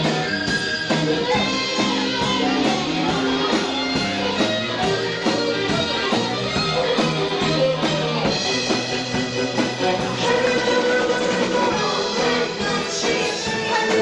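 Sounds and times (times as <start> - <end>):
bass notes: 0.0 - 14.0
guitar: 0.0 - 14.0
steady drum beat: 0.0 - 14.0.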